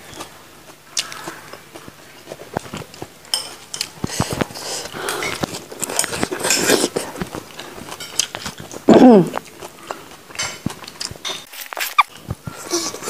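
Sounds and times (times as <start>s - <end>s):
person eating and chewing: 0.0s - 13.0s.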